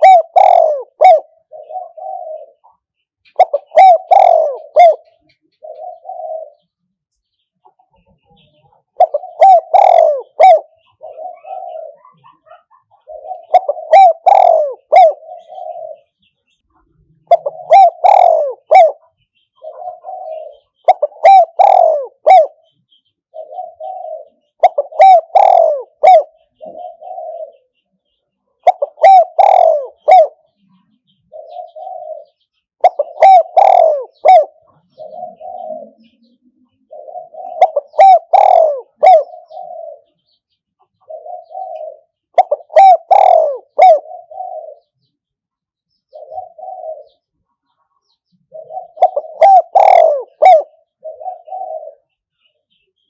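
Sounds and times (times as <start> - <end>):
dove cooing: 0.0 - 6.8, 7.6 - 16.2, 17.1 - 27.8, 28.6 - 45.1, 46.1 - 53.0.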